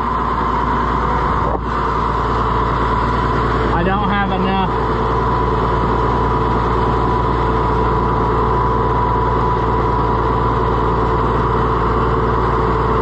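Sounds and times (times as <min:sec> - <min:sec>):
steady high whine: 0:00.0 - 0:13.0
tractor engine idling: 0:00.0 - 0:13.0.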